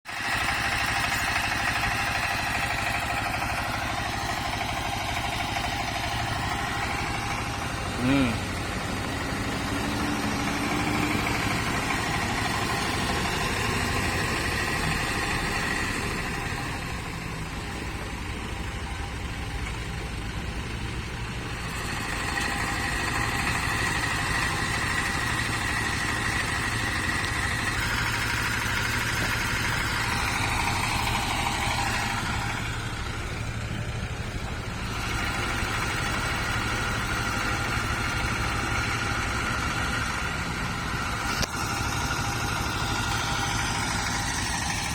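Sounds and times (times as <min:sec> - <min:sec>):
vehicle engine idling: 0:00.1 - 0:44.9.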